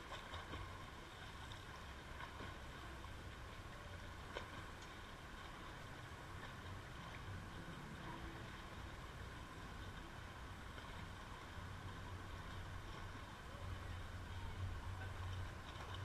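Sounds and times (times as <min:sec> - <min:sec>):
pool water lapping: 0:00.0 - 0:16.0
swimmer splashing: 0:00.0 - 0:16.0.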